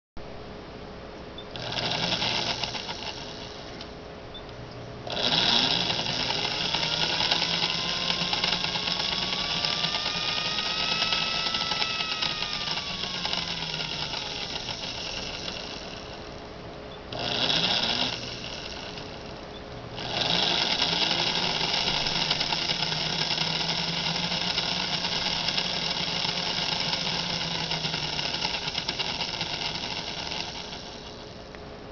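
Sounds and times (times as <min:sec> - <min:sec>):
model train motor whirring: 0:01.6 - 0:03.9, 0:05.1 - 0:16.4, 0:17.1 - 0:19.4, 0:20.0 - 0:31.5.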